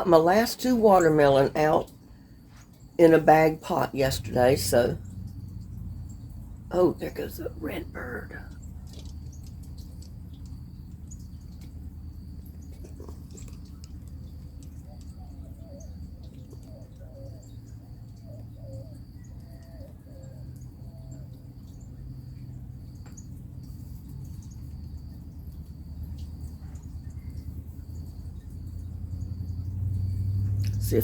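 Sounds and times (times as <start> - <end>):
birds calling: 0.0 - 31.0
low steady hum: 0.0 - 31.0.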